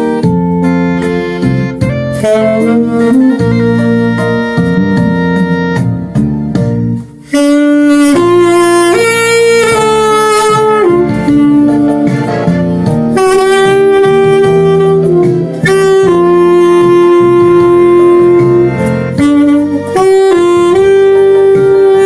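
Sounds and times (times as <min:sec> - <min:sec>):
saxophone slow melody: 0:00.0 - 0:22.0.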